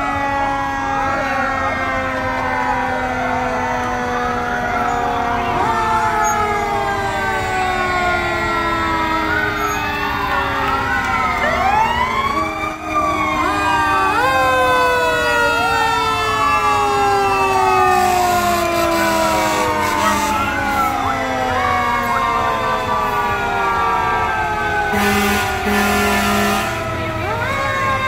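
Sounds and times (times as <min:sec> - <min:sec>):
fire engine sirens wailing: 0:00.0 - 0:28.0.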